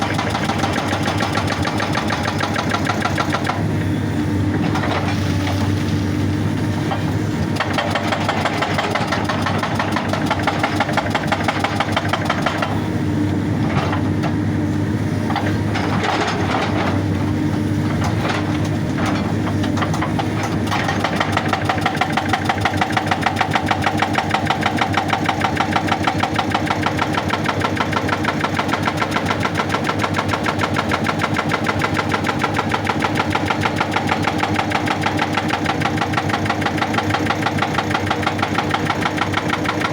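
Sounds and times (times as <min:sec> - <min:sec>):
hydraulic breaker hammering rock: 0:00.0 - 0:03.8, 0:04.5 - 0:12.9, 0:18.0 - 0:39.9
diesel engine running: 0:00.0 - 0:39.9.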